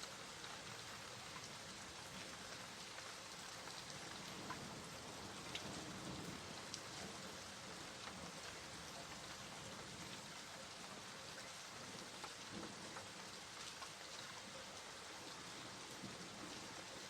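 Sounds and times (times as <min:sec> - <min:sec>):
raindrops ticking on surface: 0:00.0 - 0:17.0
steady rain hiss: 0:00.0 - 0:17.0.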